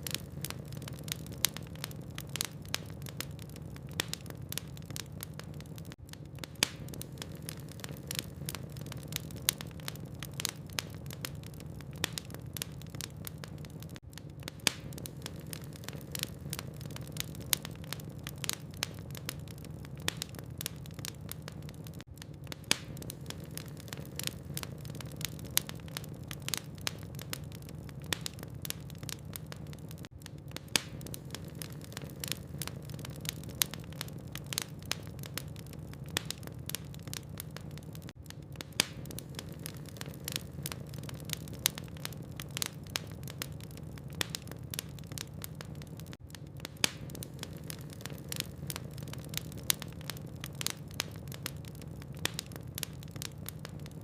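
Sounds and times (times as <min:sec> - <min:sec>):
sharp snaps and pops: 0:00.0 - 0:54.0
wood fire crackling: 0:00.0 - 0:54.0.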